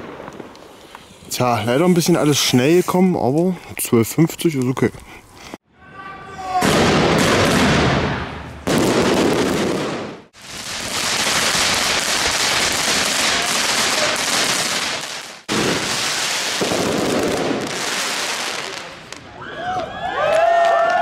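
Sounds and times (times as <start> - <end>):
fireworks crackling and hissing: 0.0 - 5.6, 6.6 - 19.3.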